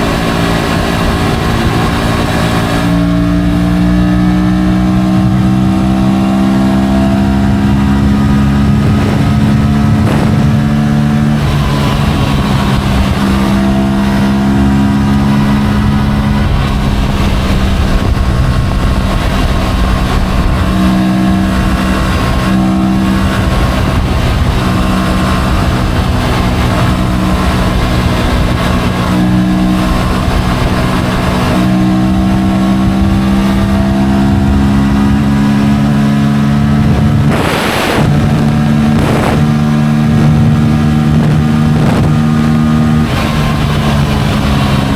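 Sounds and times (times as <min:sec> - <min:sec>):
motorcycle engine revving: 0:00.0 - 0:44.9
wind and road noise: 0:00.0 - 0:44.9.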